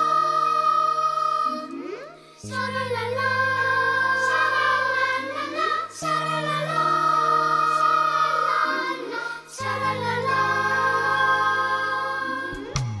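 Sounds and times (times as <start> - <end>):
song with singing: 0.0 - 13.0.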